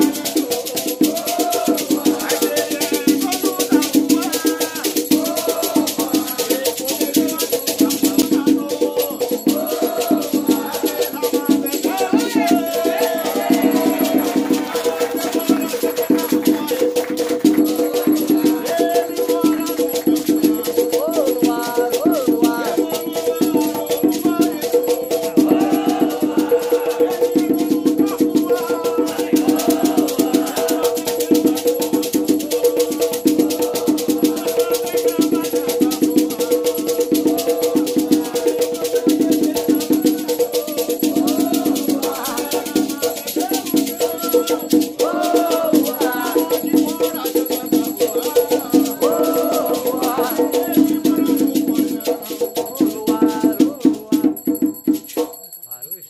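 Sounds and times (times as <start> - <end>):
voices chanting: 0.0 - 54.2
rattle shaken fast: 0.0 - 55.7.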